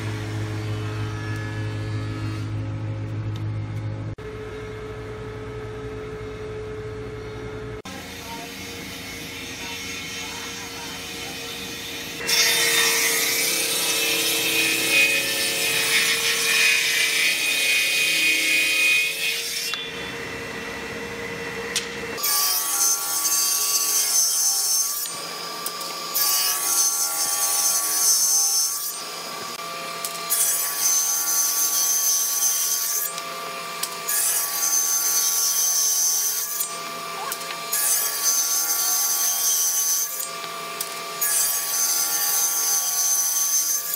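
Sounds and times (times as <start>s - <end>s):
power saw cutting wood: 0.0s - 2.6s, 7.9s - 43.9s
table saw cutting wood: 0.0s - 3.0s, 7.8s - 43.9s.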